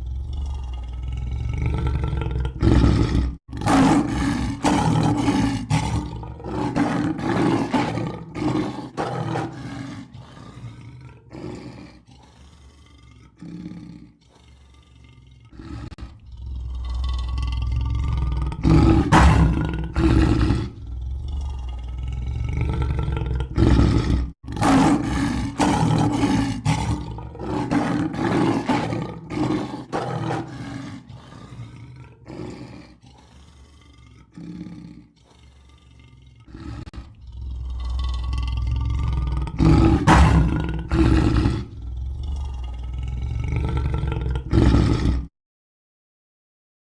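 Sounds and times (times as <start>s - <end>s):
lion roaring and grunting: 0.0s - 45.3s.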